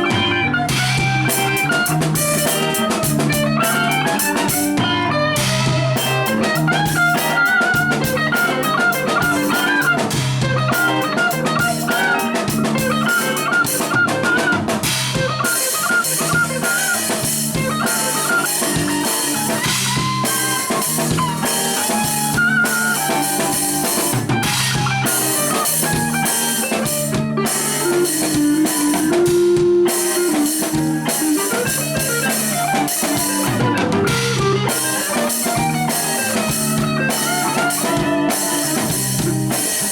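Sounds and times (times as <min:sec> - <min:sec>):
music with drums and guitar: 0:00.0 - 0:39.9.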